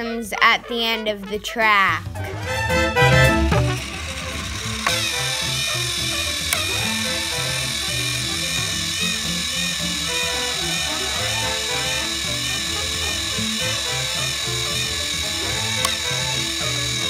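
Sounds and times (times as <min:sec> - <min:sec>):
background music: 0:00.0 - 0:17.0
toy train motor whirring: 0:02.6 - 0:17.0.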